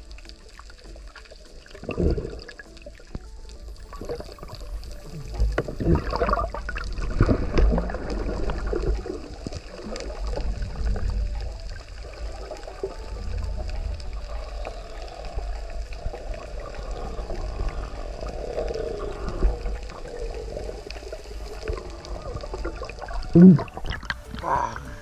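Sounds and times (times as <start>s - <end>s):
underwater gurgling and bubbling: 0.0s - 25.0s.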